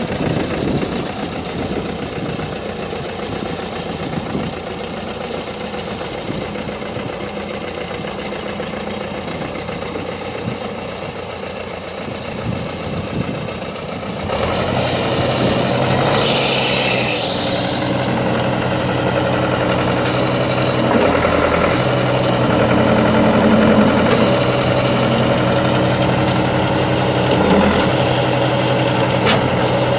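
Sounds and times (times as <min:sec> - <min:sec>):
tractor-loader engine idling: 0:00.0 - 0:29.9.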